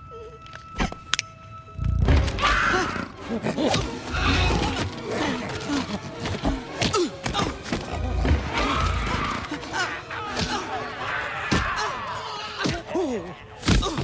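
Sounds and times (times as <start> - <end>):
dramatic film music: 0.0 - 14.0.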